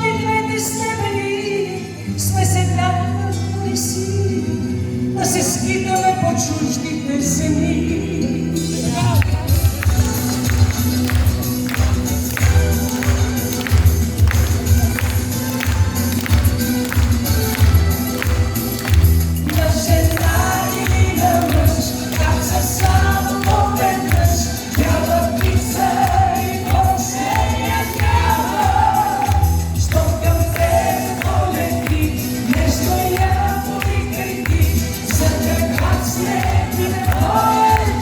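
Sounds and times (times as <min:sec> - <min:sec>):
live band playing pop music: 0:00.0 - 0:38.0.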